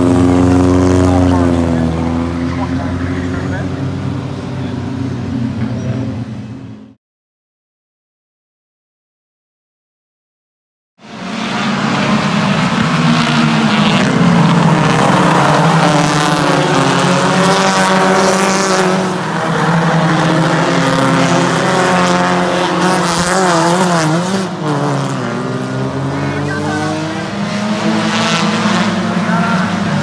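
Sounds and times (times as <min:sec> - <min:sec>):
race car engines running hard: 0:00.0 - 0:07.0, 0:11.0 - 0:30.0.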